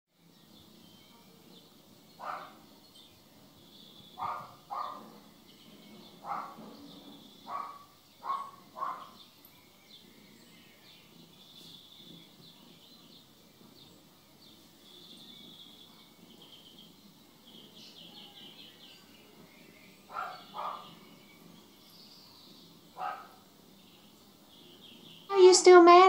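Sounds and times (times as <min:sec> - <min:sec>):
faint high chirping: 0:00.2 - 0:26.0.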